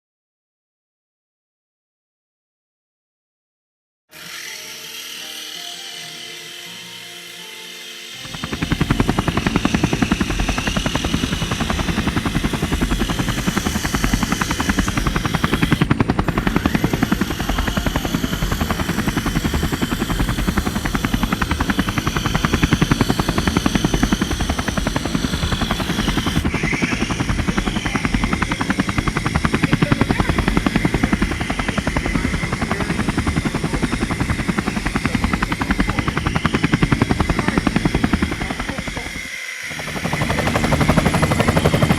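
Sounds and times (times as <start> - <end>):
high motor whine: 4.1 - 41.9
model helicopter rotor chop: 4.1 - 41.9.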